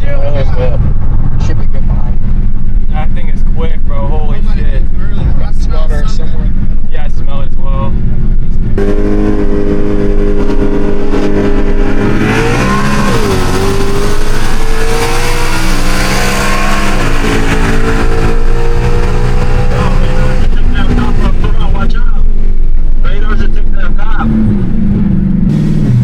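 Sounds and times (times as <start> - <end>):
car engine cruising: 0.0 - 26.0.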